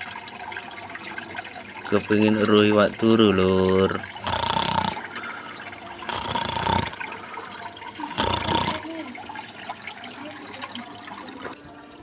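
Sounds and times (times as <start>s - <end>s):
water gurgling in a tank: 0.0s - 12.0s.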